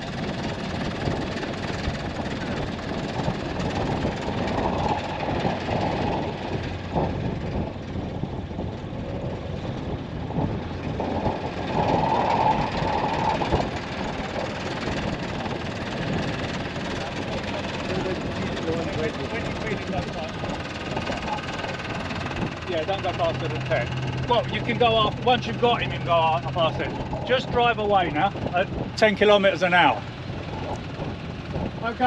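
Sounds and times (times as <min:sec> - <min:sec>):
vehicle engines rumbling: 0:00.0 - 0:32.0.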